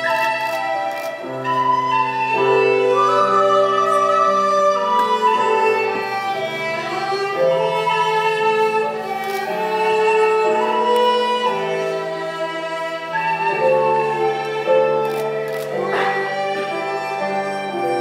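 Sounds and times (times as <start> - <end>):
live ensemble music: 0.0 - 18.0.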